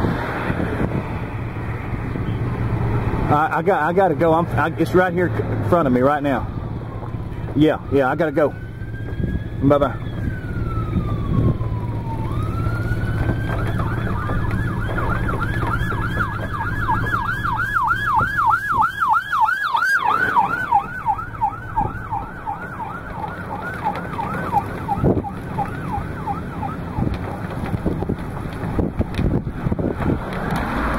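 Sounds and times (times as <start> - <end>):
emergency vehicle siren: 0.0 - 30.9.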